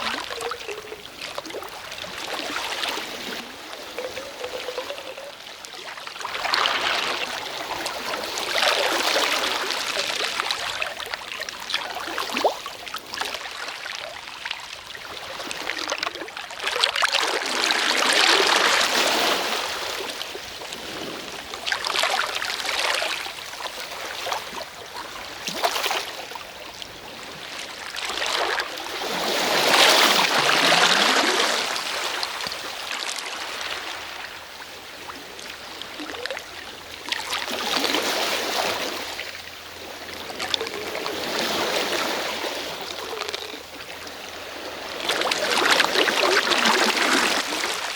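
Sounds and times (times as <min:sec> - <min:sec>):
trickling water: 0:00.0 - 0:47.9
waves washing onto shore: 0:00.0 - 0:47.9.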